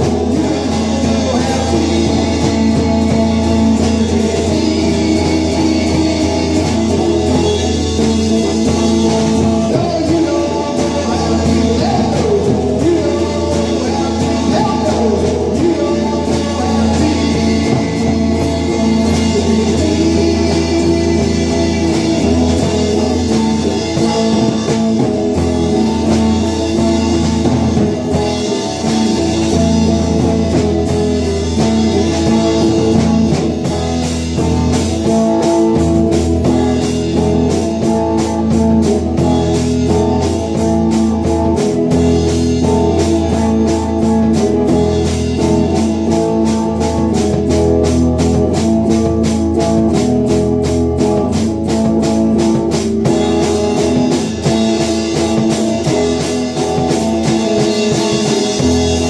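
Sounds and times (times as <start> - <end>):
electric guitars playing rock: 0.0 - 59.0
fast regular ticking beat: 0.0 - 59.0
steady drum beat: 0.0 - 59.0.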